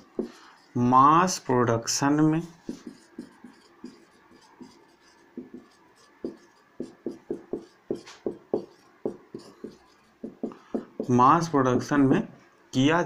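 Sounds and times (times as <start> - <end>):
marker pen writing on whiteboard: 0.0 - 1.5, 2.2 - 12.2.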